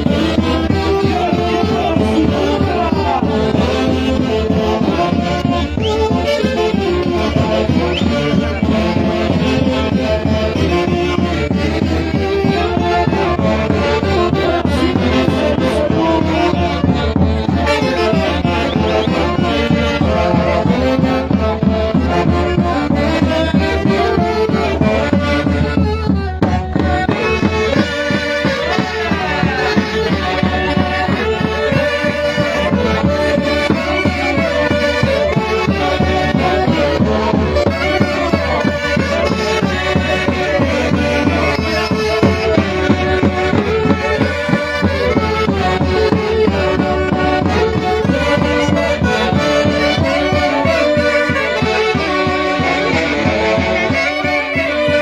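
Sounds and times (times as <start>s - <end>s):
wind instruments playing melody: 0.0s - 55.0s.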